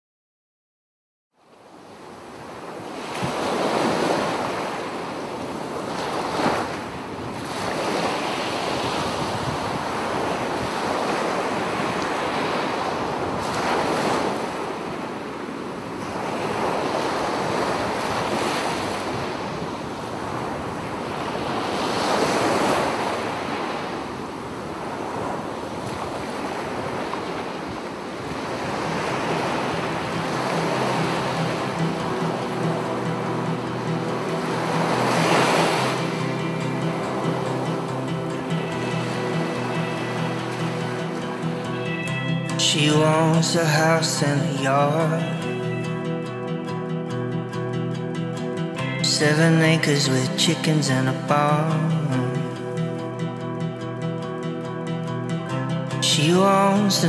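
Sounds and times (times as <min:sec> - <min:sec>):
sea waves washing ashore: 0:01.4 - 0:57.0.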